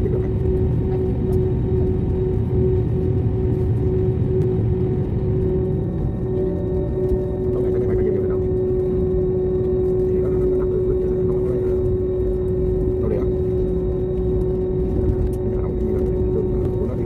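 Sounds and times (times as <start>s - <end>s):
jet engines roaring in cabin: 0.0s - 17.0s.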